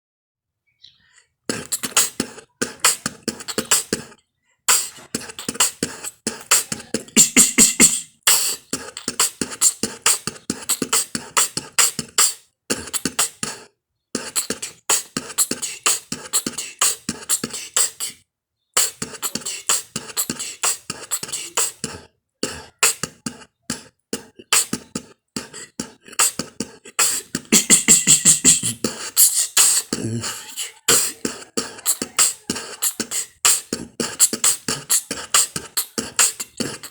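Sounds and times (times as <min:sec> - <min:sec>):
beatboxing: 0:01.4 - 0:18.2, 0:18.8 - 0:36.9.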